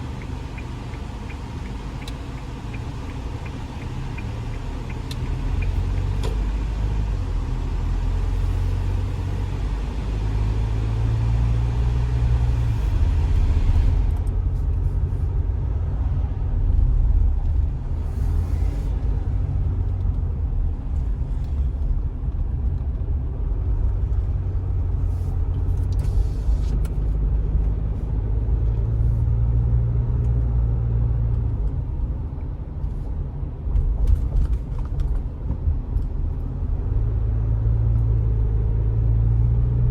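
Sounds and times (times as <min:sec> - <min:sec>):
diesel engine and road rumble: 0:00.0 - 0:39.9.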